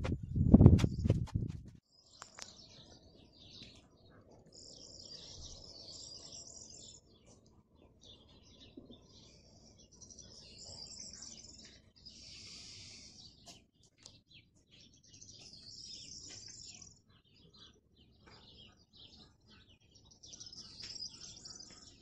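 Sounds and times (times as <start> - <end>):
small birds chirping and singing: 0.0 - 22.0.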